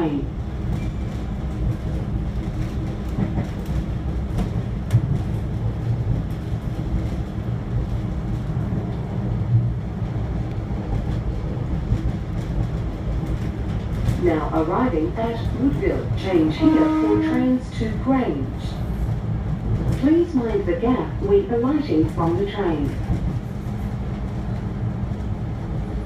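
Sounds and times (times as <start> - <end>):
railcar engine and wheels rumbling: 0.0 - 26.0.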